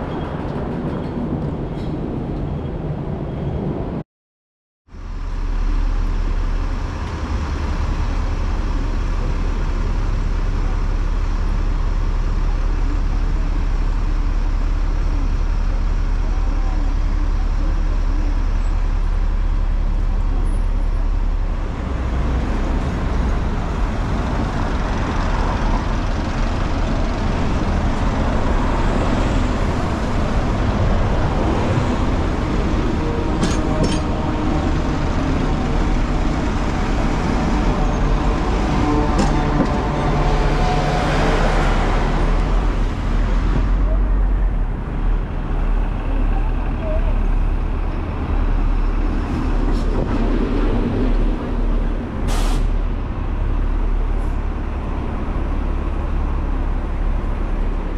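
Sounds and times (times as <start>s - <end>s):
buses passing: 0.0s - 4.0s, 4.9s - 57.9s
tram passing: 0.0s - 4.0s, 5.0s - 57.9s
low engine rumble: 4.9s - 57.9s.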